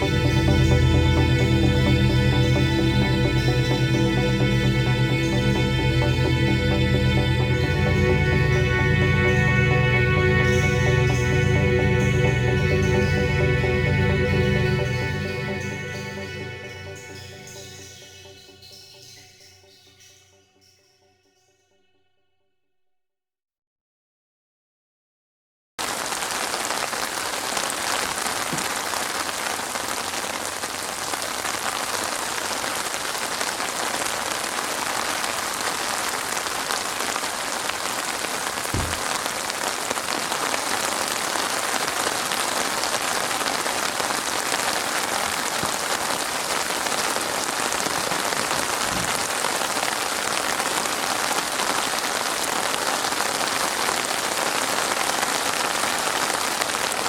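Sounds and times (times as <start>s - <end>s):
rain falling: 0.0s - 19.1s, 25.8s - 57.0s.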